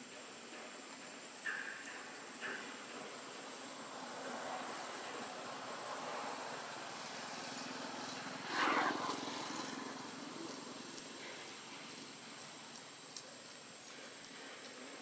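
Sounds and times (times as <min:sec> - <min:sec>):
distant engine hum: 0:00.0 - 0:15.0.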